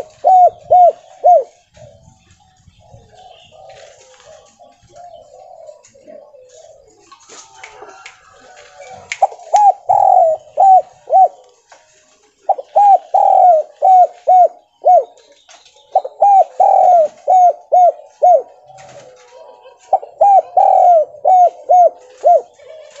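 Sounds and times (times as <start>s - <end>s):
dove cooing: 0.0s - 11.6s, 12.4s - 23.0s.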